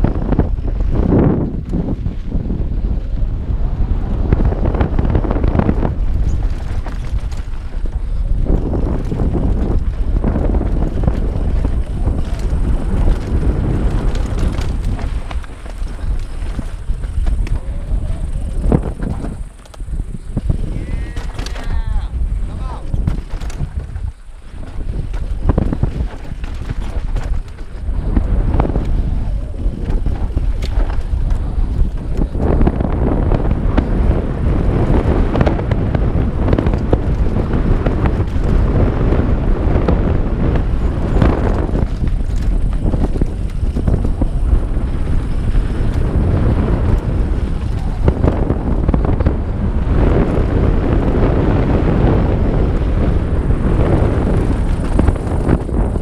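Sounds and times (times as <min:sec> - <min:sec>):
bike clattering over bumps: 0:00.0 - 0:56.0
bike tyre noise: 0:00.0 - 0:56.0
wind on microphone: 0:00.0 - 0:56.0.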